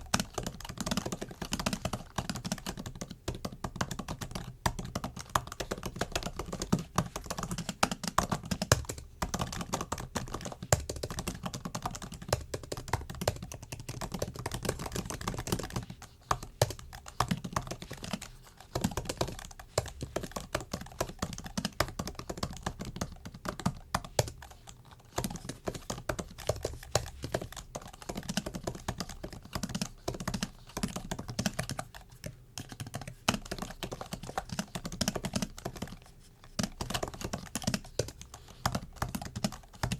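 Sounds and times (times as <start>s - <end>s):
laptop keyboard typing: 0.0s - 39.9s.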